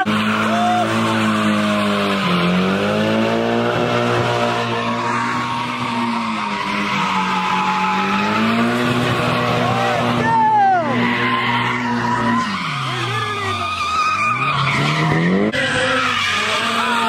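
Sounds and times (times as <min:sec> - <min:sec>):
car engine revving high: 0:00.0 - 0:17.0
tires screeching: 0:00.0 - 0:17.0.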